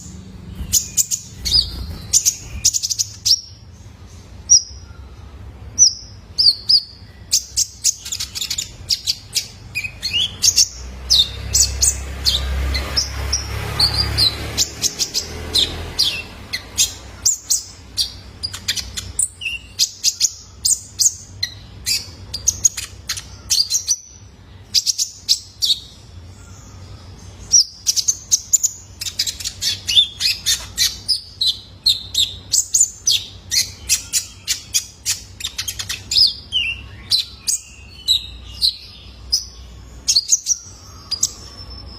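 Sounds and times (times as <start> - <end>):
sunbird singing high chirps: 0.0 - 41.9.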